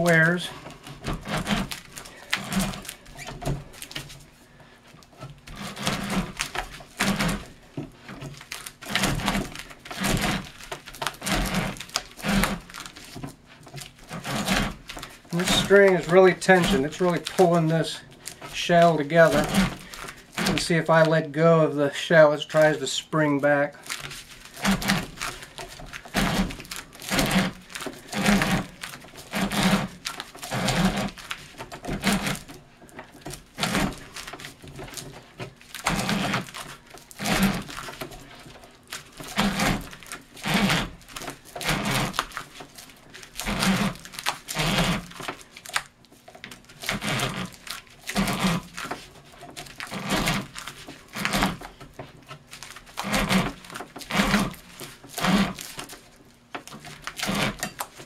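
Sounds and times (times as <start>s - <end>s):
string rasping around paper shell: 0.0s - 58.0s.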